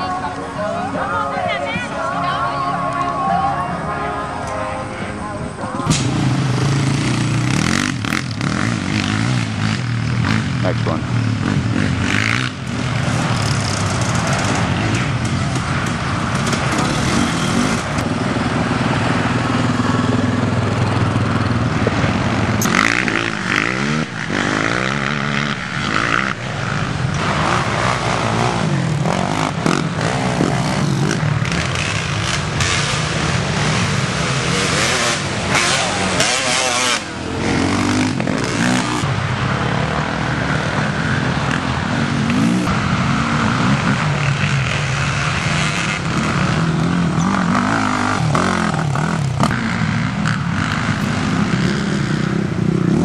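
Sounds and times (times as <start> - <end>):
quad engines revving: 5.4 - 53.0.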